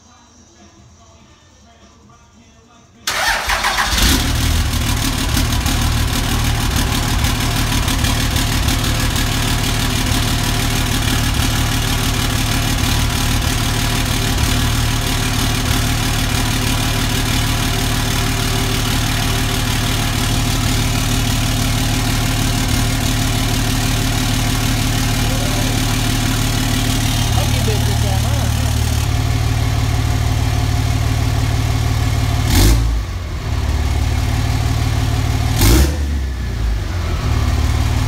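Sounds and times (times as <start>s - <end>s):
diesel engine idling: 3.1s - 38.0s.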